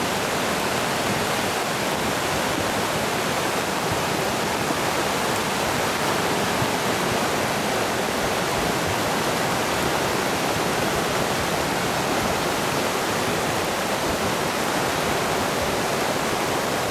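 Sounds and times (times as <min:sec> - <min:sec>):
flooded river rushing: 0:00.0 - 0:16.9.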